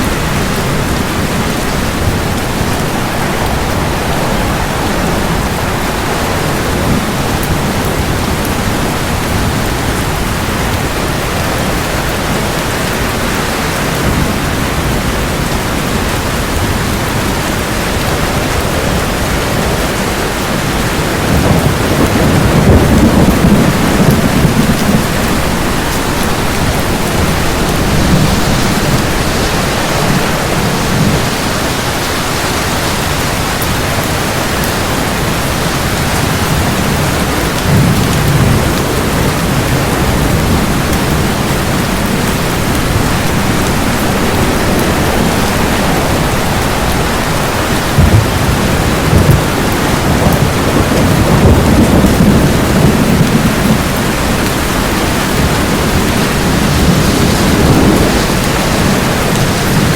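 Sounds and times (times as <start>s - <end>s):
heavy rain: 0.0s - 59.9s
rolling thunder: 0.0s - 59.9s.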